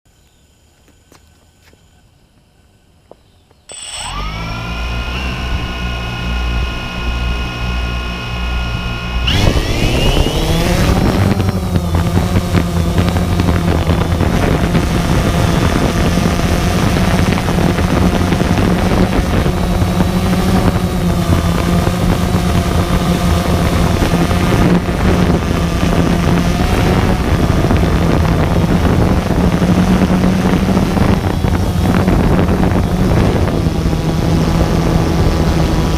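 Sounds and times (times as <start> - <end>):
quadcopter motors whining: 3.7 - 35.9.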